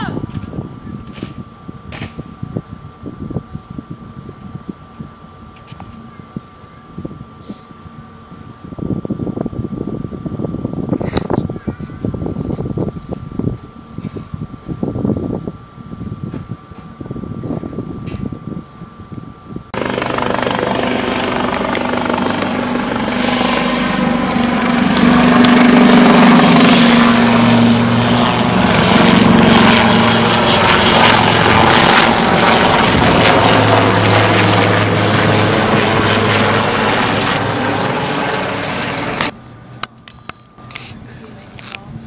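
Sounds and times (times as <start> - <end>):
helicopter rotor and turbine: 0.0 - 42.0.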